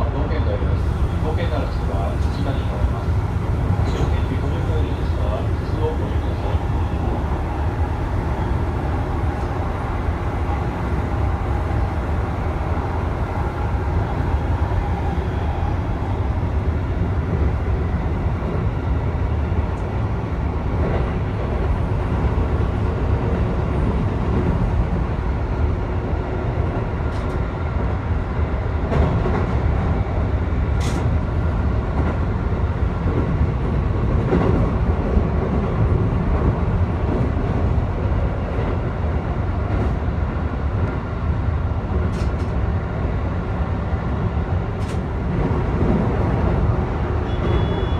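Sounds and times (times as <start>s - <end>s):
train wheels and motors rumbling: 0.0s - 47.9s.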